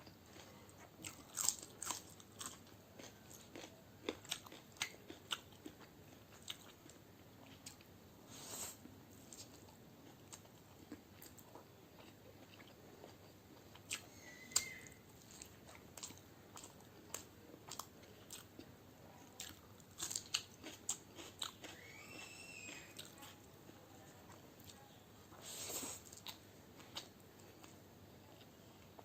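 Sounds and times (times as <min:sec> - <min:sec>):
person chewing crunchy food: 0:00.0 - 0:07.9, 0:09.3 - 0:14.0, 0:14.6 - 0:18.7, 0:19.3 - 0:23.4, 0:25.4 - 0:29.0.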